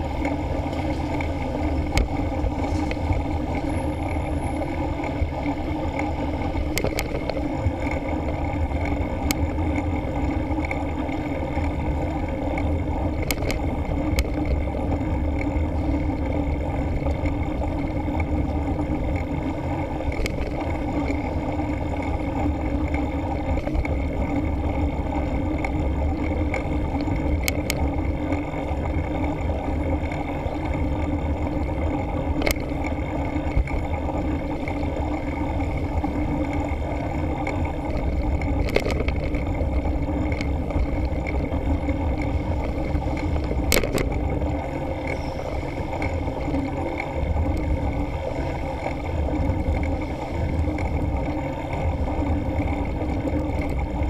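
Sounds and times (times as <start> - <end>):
bike tyres rumbling on tarmac: 0.0 - 54.0.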